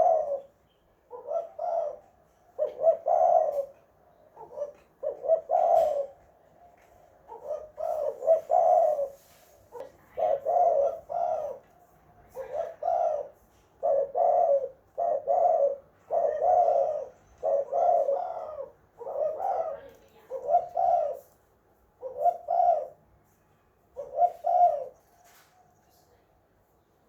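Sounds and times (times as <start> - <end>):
dove cooing: 0.0 - 21.4, 22.0 - 23.0, 24.0 - 25.4.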